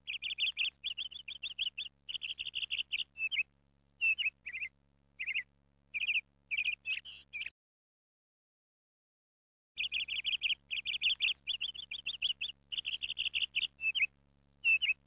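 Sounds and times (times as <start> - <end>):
faint low hum: 0.0 - 7.5, 9.8 - 15.0
songbird chirping: 0.0 - 7.5, 9.8 - 15.0.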